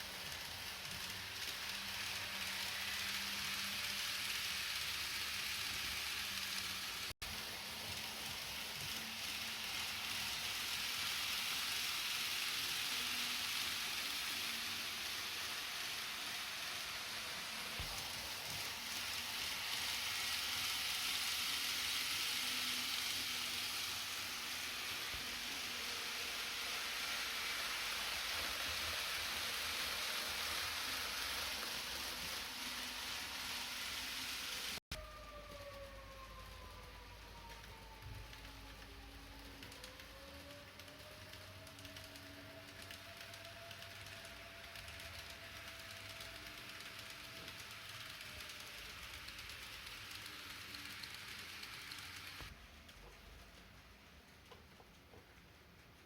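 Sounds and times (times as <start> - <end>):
model train running on track: 0.0 - 56.0.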